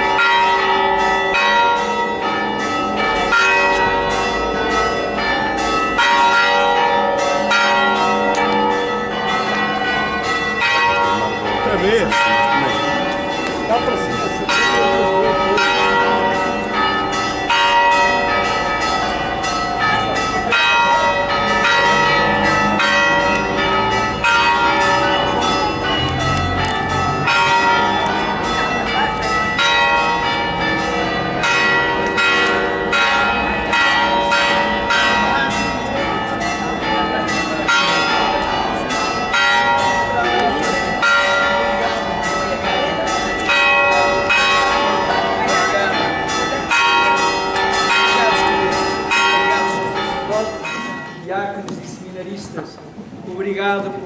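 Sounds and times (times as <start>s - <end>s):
church bells pealing: 0.0s - 52.5s, 53.3s - 54.0s.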